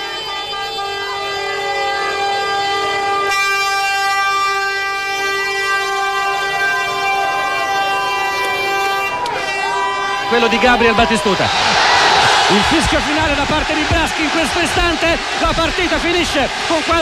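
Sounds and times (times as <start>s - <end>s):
horns blasting: 0.0s - 17.0s.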